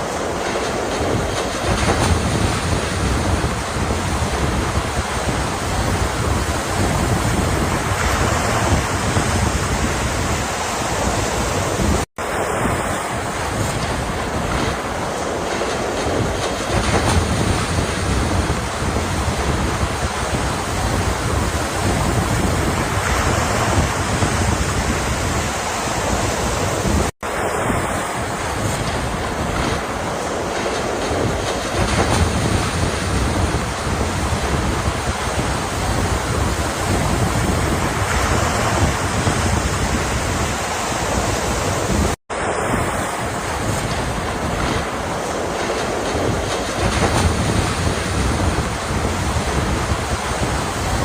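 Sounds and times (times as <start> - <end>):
ocean surf washing in: 0.0 - 51.0
wind across microphone: 0.0 - 51.0.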